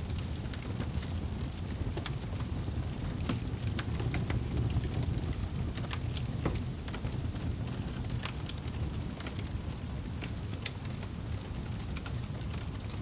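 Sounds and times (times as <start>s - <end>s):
low rumble of burning fire: 0.0s - 13.0s
wood fire crackling: 0.0s - 13.0s.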